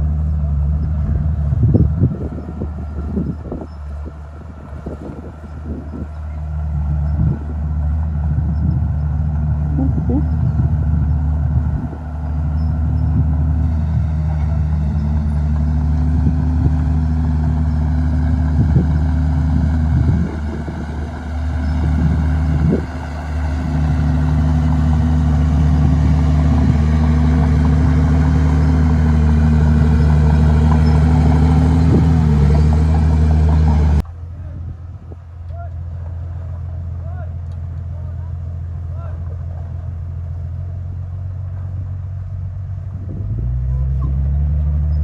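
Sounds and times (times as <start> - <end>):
bulldozer diesel engine labouring: 0.0 - 45.0.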